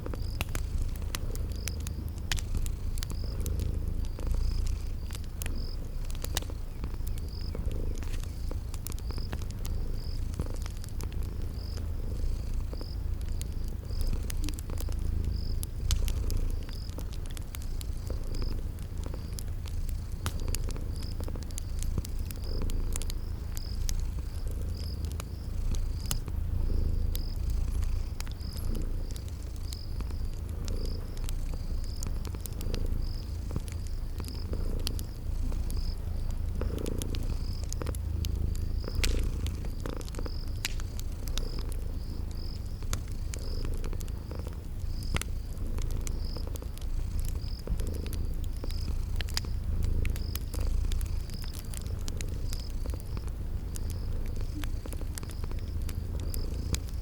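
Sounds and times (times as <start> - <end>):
cat purring: 0.0 - 57.0
crickets chirping: 0.0 - 57.0
fire crackling: 0.0 - 57.0.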